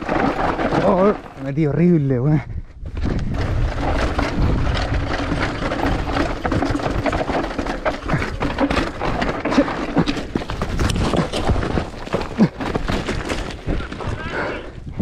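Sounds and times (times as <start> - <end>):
bike chain and frame clattering: 0.0 - 1.5, 3.0 - 14.6
tyres crunching over stones: 0.0 - 2.0, 2.8 - 15.0.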